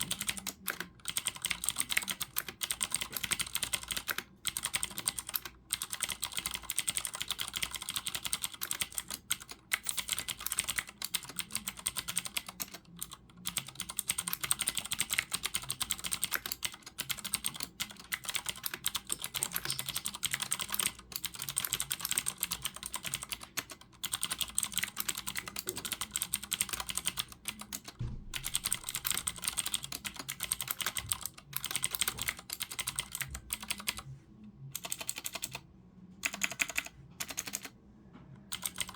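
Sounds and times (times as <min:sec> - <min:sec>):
fast typing on mechanical keyboard: 0:00.0 - 0:34.0, 0:34.8 - 0:35.6, 0:36.2 - 0:37.7, 0:38.5 - 0:38.9.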